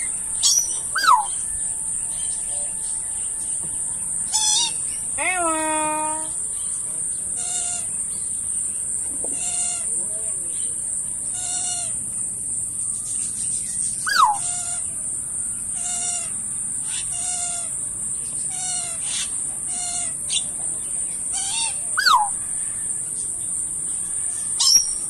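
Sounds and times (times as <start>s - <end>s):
steady high-pitched hiss: 0.0s - 25.0s.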